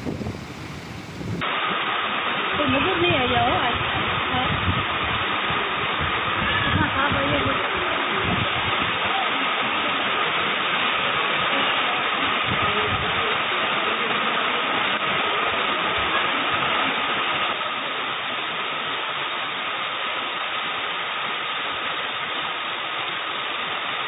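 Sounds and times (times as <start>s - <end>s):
flooded river rushing: 0.0s - 24.0s.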